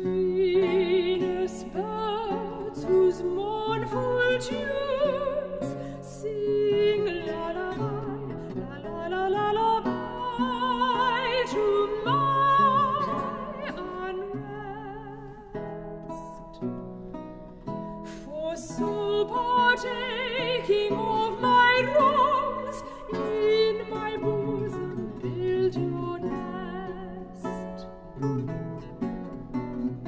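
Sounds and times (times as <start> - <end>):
soprano singing with vibrato: 0.0 - 15.5, 18.1 - 27.8
lute plucked: 0.0 - 30.0.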